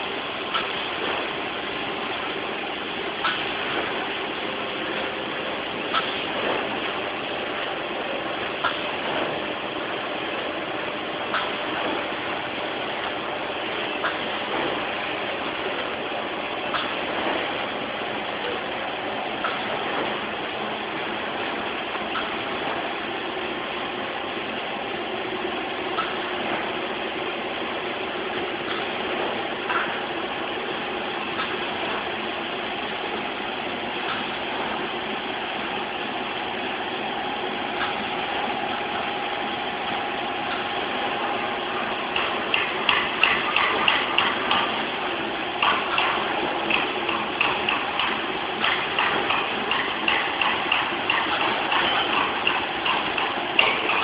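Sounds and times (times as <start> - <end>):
packing machine humming: 0.0 - 54.0.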